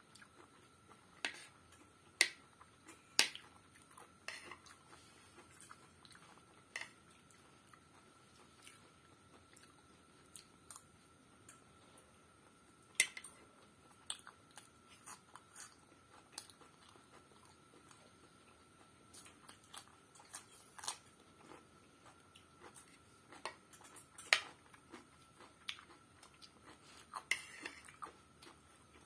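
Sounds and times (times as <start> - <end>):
chewing food: 0.1 - 11.6, 12.4 - 29.0.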